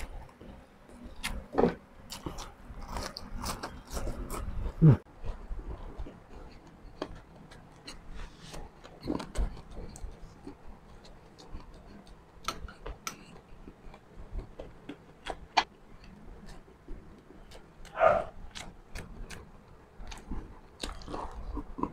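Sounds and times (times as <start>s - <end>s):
wet chewing mouth sounds: 2.1s - 21.9s.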